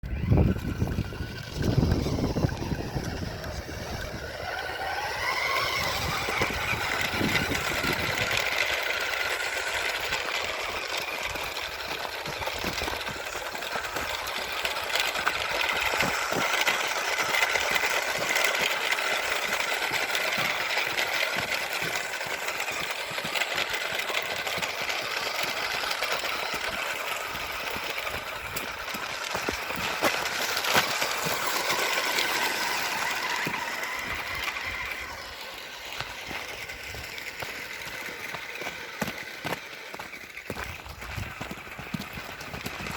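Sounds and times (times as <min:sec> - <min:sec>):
toy car motor whining: 0:00.0 - 0:42.9.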